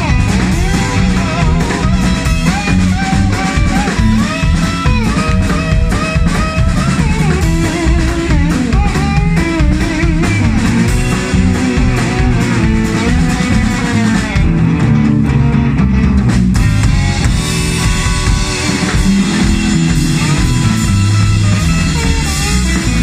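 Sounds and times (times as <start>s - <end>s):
bass guitar: 0.0s - 23.0s
drum kit: 0.0s - 23.0s
electric guitar bending notes: 0.0s - 23.0s.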